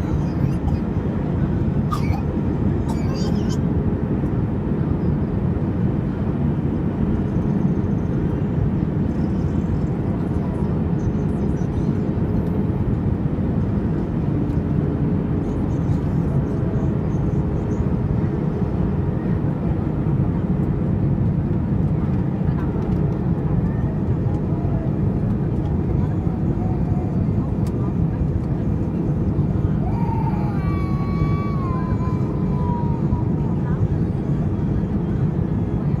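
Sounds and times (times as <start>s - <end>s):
airliner engine roar: 0.0s - 36.0s
faint constant hum: 0.0s - 36.0s.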